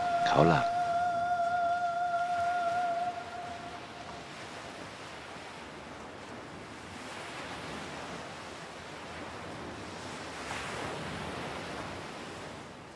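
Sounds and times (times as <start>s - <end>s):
waves washing onto beach: 0.0s - 12.9s.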